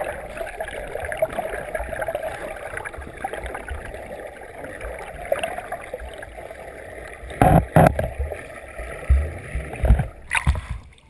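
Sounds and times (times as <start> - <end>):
underwater water churning: 0.0 - 11.0.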